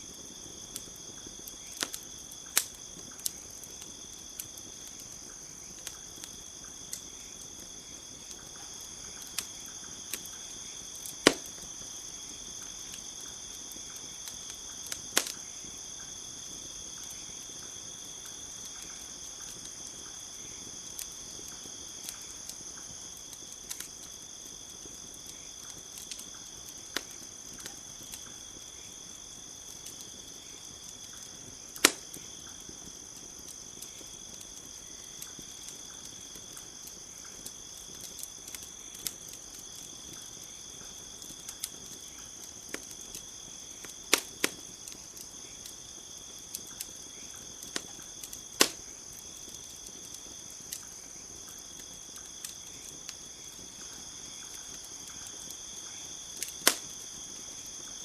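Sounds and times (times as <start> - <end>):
campfire crackling and popping: 0.0 - 58.0
crickets chirring: 0.0 - 58.0.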